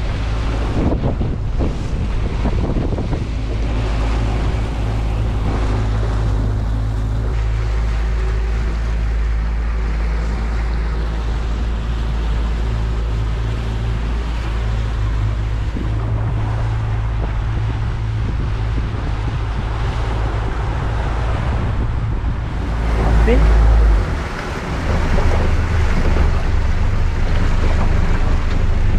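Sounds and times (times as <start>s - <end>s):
boat motor droning: 0.0s - 28.9s
water rushing: 0.0s - 28.9s
wind noise on microphone: 0.0s - 28.9s.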